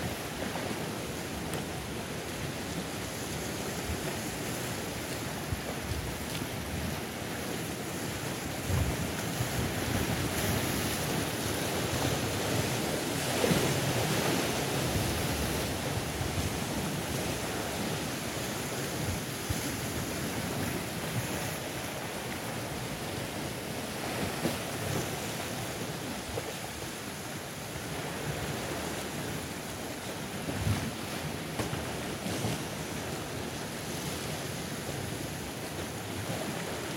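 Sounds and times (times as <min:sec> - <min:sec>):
waves washing over rocks: 0:00.0 - 0:36.9.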